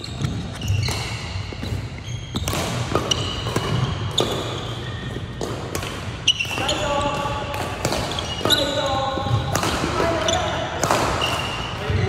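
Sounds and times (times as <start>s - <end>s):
racket hitting shuttlecock: 0.0s - 11.9s
sneakers squeaking: 0.0s - 12.0s.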